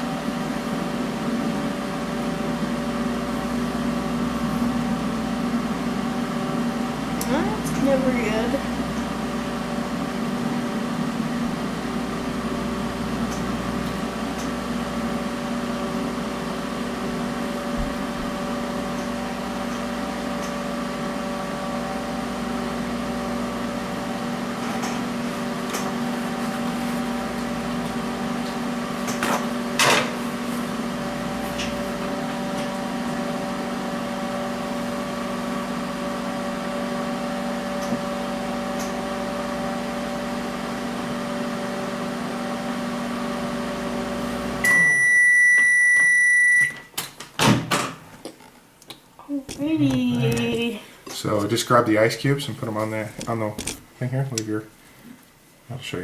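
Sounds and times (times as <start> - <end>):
microwave oven humming: 0.0 - 56.0.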